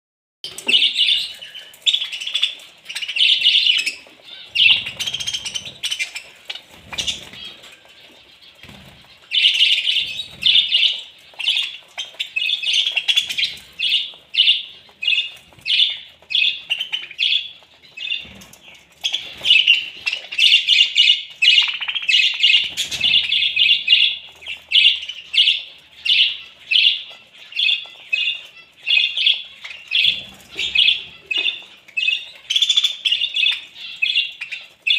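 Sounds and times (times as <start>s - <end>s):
flock of birds chattering: 0.5s - 34.9s.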